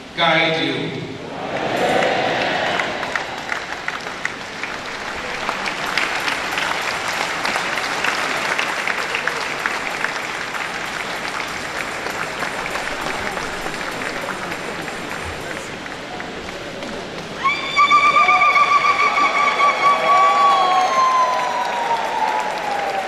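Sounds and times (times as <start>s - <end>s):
crowd applauding: 1.3s - 23.0s.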